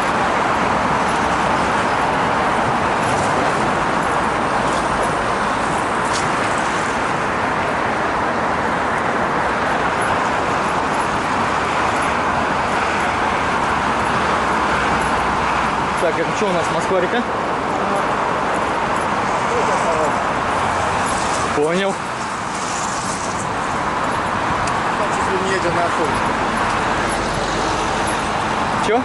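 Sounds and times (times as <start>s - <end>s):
city road traffic: 0.0s - 29.0s.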